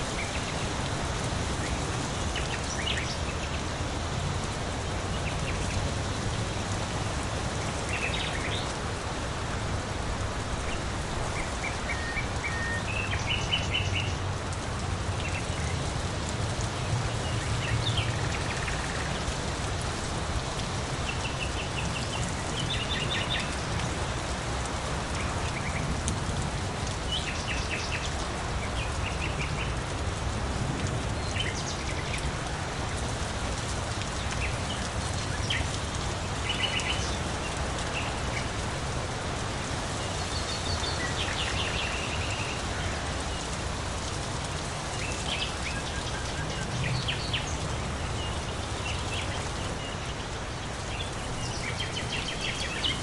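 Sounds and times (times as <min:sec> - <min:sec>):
songbirds chirping: 0:00.0 - 0:53.0
steady rain falling: 0:00.0 - 0:53.0.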